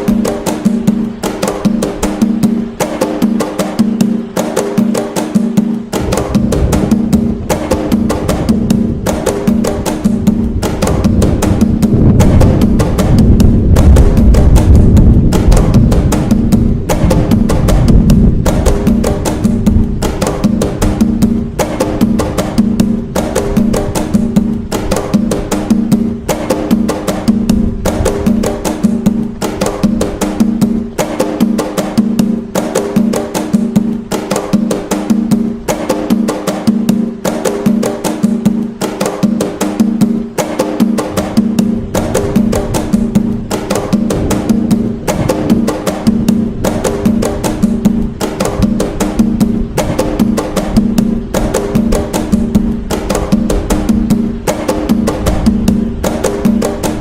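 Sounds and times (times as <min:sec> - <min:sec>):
hand drums playing: 0:00.0 - 0:57.0.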